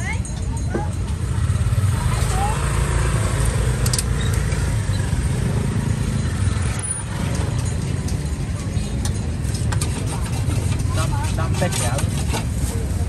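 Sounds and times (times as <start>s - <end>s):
crowd hubbub: 0.0s - 3.8s, 4.4s - 13.0s
vehicle engines rumbling: 0.0s - 13.0s.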